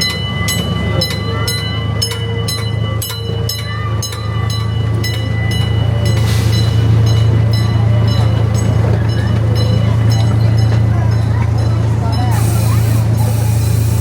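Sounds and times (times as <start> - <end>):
small train rumbling on track: 0.0 - 14.0.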